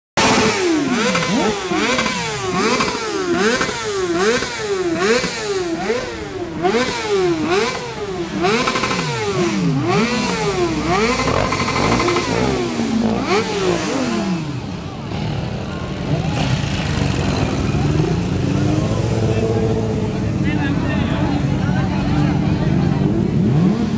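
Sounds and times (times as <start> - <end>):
motorcycle engine revving: 0.2 - 23.9.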